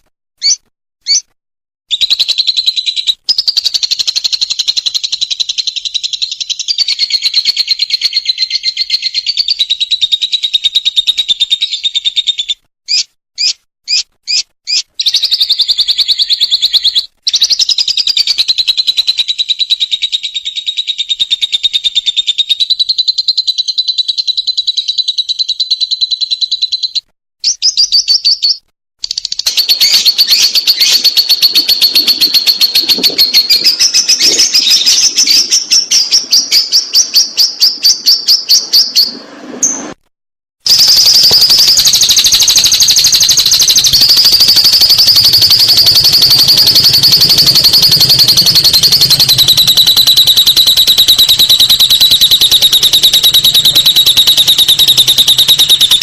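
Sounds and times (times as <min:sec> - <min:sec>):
lovebird chattering: 0:00.4 - 0:01.3, 0:01.9 - 0:39.0, 0:40.7 - 0:56.0.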